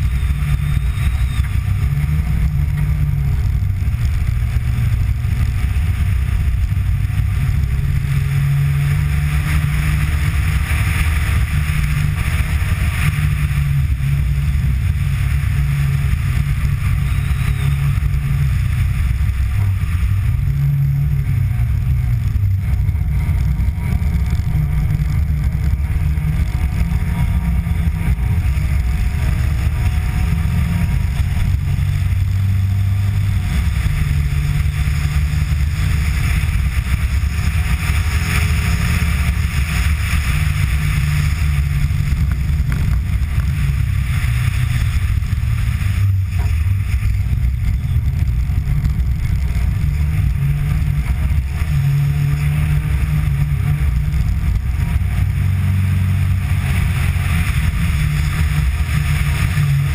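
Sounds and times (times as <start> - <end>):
rally car engine revving: 0.0 - 59.9
wind and tyre noise: 0.0 - 59.9.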